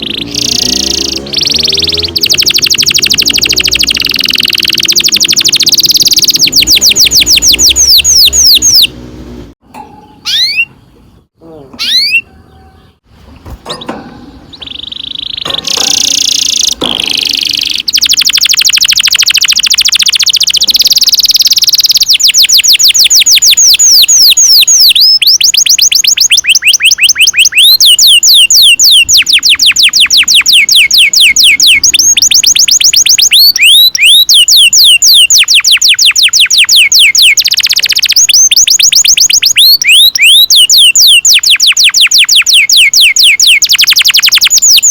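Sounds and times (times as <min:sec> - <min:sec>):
canary singing: 0:00.0 - 0:44.9.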